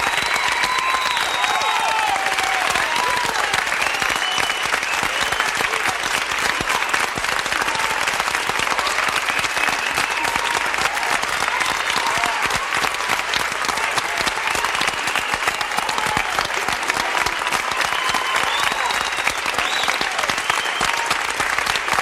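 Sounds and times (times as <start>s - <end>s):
crowd clapping: 0.0s - 22.0s
voices cheering: 0.0s - 22.0s.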